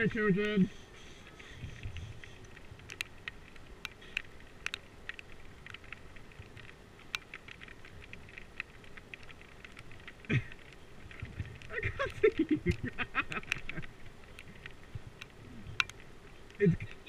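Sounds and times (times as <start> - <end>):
faint low rumble: 0.0 - 17.0
raindrops tapping on camera housing: 1.2 - 17.0.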